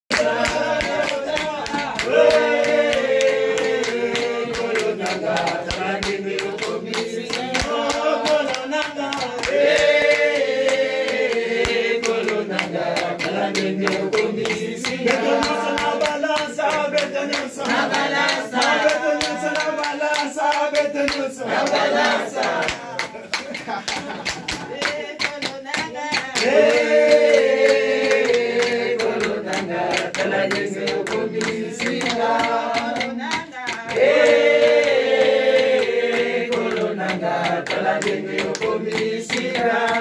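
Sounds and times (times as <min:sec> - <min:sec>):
group singing: 0:00.0 - 0:40.0
hand-clapping: 0:00.0 - 0:40.0.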